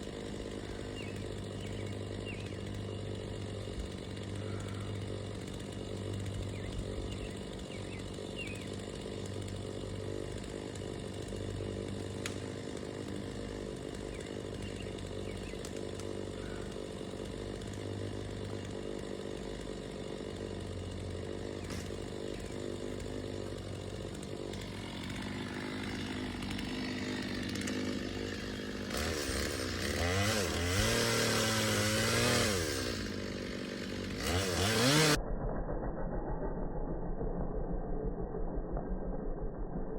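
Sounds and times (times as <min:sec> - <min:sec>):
chainsaw running and revving: 0:00.0 - 0:35.2.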